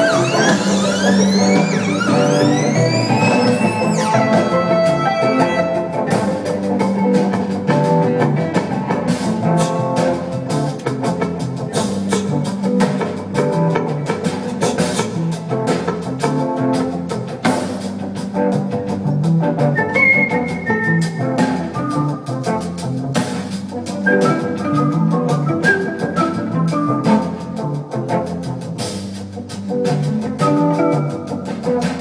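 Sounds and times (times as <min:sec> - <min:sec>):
drum kit beat: 0:00.0 - 0:32.0
guitars: 0:00.0 - 0:32.0.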